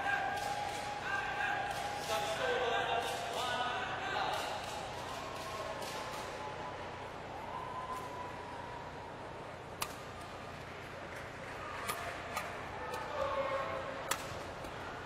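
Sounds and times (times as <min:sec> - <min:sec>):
murmur of indoor arena: 0:00.0 - 0:15.0.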